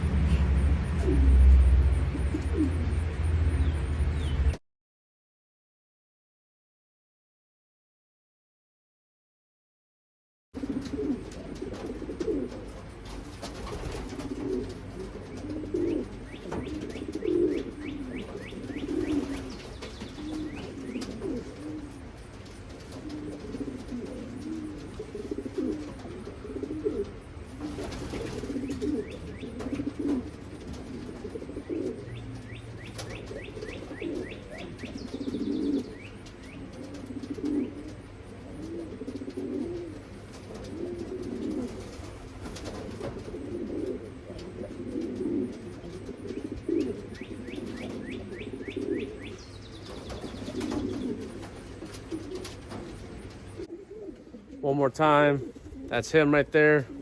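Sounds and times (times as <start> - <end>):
pigeons cooing: 0.0 - 4.5, 10.6 - 57.0.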